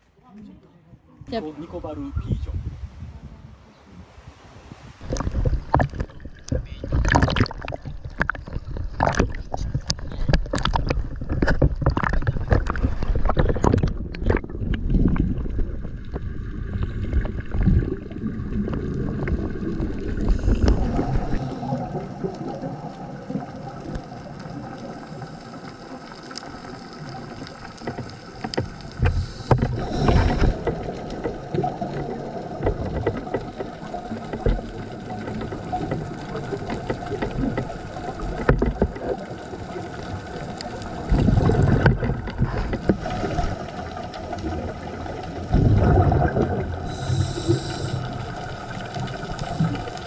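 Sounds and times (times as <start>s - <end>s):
underwater rush: 1.4s - 50.0s
small waves slapping and sloshing: 3.9s - 47.0s
underwater steady hum: 4.0s - 50.0s.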